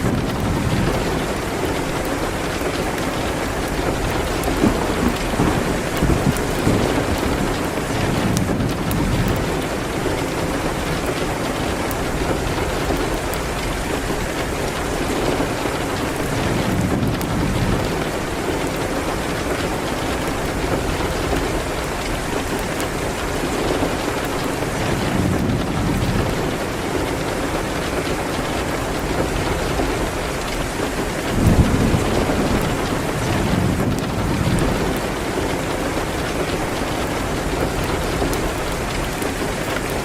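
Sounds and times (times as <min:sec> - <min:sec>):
heavy rain on a window: 0:00.0 - 0:40.0
thunder rumbling: 0:00.0 - 0:40.0.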